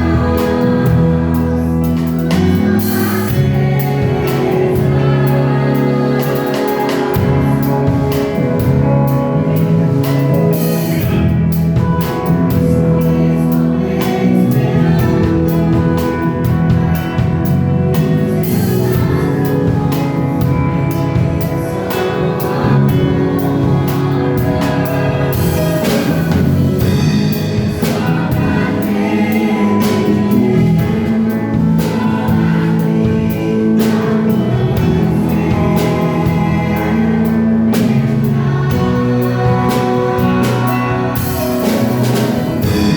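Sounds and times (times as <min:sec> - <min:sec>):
drums steady beat: 0:00.0 - 0:42.9
voices singing worship song: 0:00.0 - 0:42.9.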